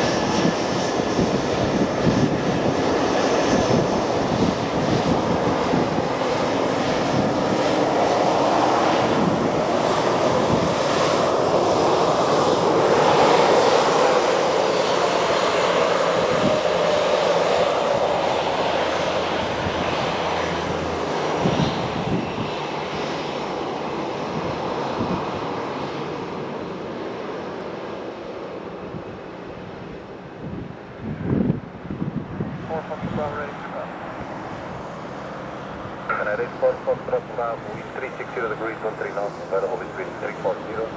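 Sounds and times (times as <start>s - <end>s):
jet engine whine falling in pitch: 0.0s - 40.9s
jet engines taxiing: 0.0s - 40.9s.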